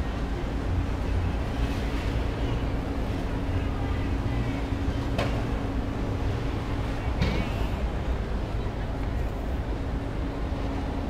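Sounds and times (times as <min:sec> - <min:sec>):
ship low rumble and hum: 0:00.0 - 0:11.0.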